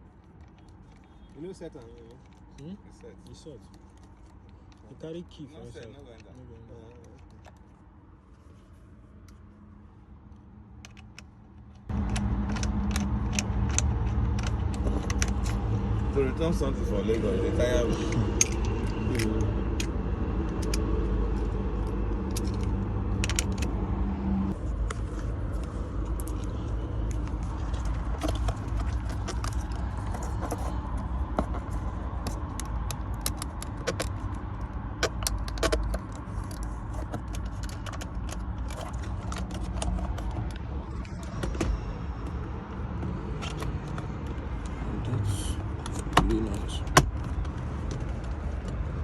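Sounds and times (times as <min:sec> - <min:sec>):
steady low rumble: 0:07.0 - 0:49.0.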